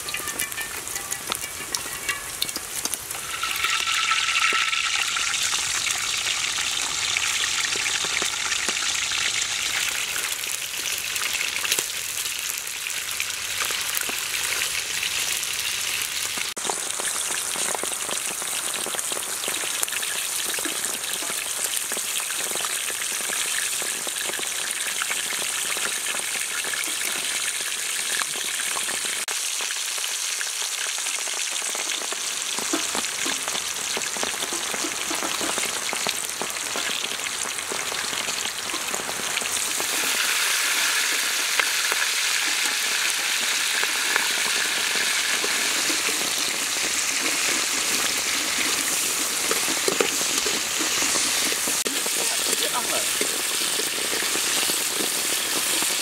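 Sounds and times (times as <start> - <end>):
oil sizzling in a wok: 0.0 - 56.0.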